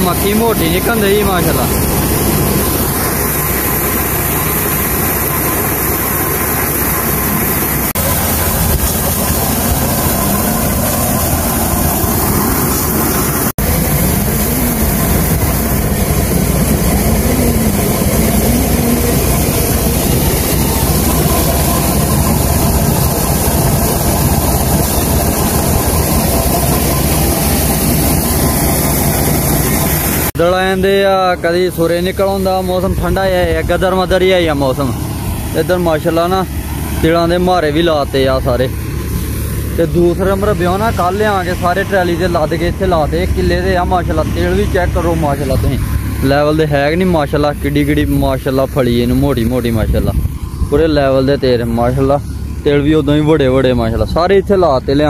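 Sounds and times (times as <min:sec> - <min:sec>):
shelled corn streaming from chute: 0:00.0 - 0:50.2
thresher drum running: 0:00.0 - 0:55.0
tractor engine running: 0:00.0 - 0:55.0.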